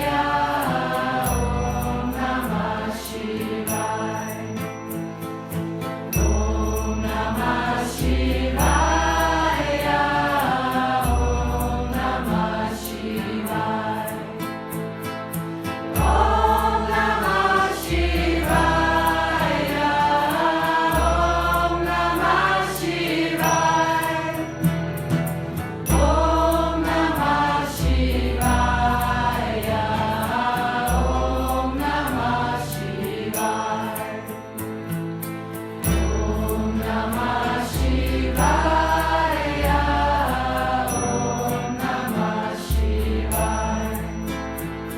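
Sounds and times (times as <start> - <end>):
group chanting a mantra: 0.0 - 4.6, 6.2 - 14.8, 16.0 - 24.7, 25.9 - 34.4, 35.9 - 44.2.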